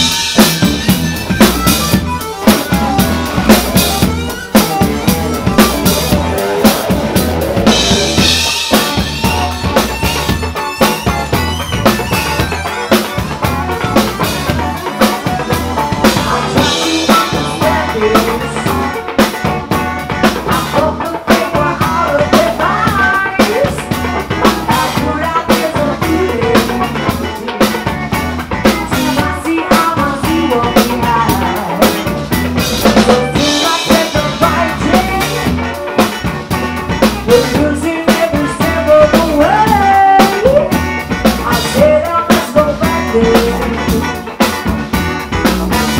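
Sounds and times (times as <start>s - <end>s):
drum kit beating: 0.0s - 45.9s
electric guitar: 0.0s - 45.9s.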